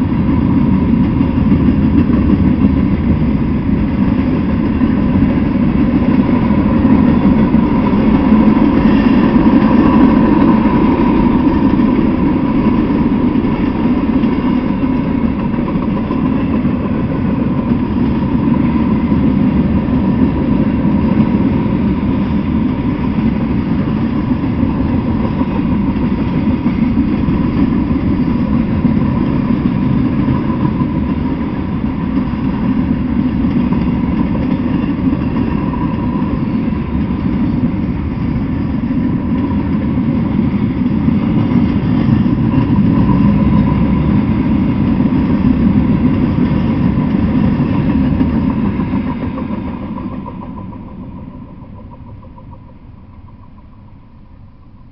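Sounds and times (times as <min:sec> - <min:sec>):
freight train wheels rumbling on rail: 0:00.0 - 0:54.9.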